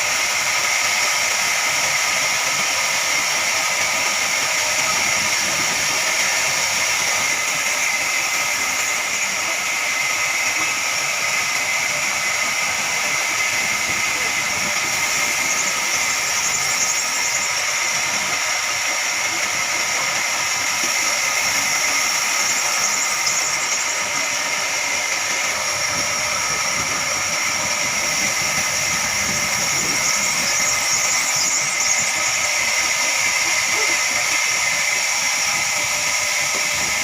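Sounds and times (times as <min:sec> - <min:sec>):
band saw cutting a log: 0:00.0 - 0:37.0.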